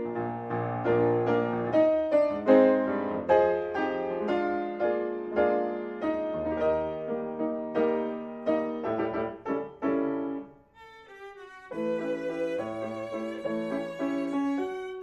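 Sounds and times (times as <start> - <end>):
piano chords: 0.0 - 10.6, 11.3 - 15.0.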